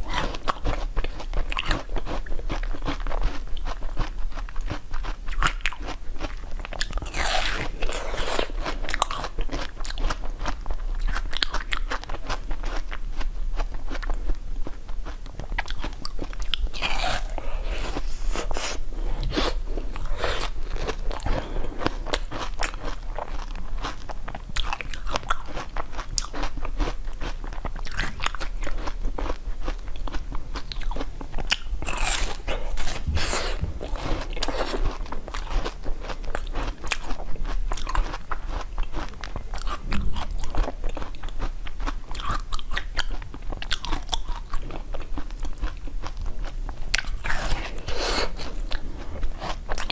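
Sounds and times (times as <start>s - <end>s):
ice being chewed and crunched: 0.0s - 49.9s.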